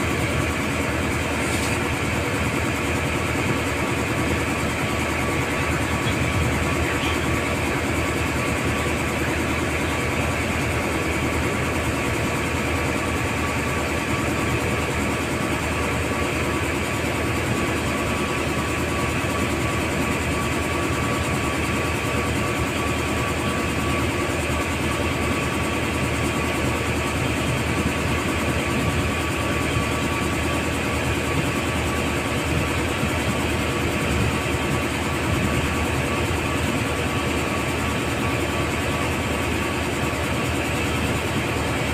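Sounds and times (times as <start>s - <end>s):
constant engine whine: 0.0s - 41.9s
marine engine droning: 0.0s - 41.9s.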